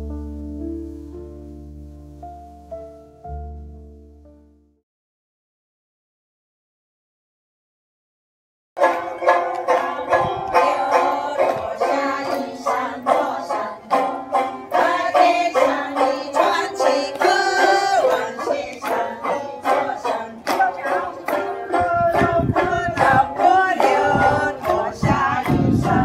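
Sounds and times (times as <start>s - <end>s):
plucked lutes playing folk tune: 0.0s - 4.2s, 8.8s - 26.0s.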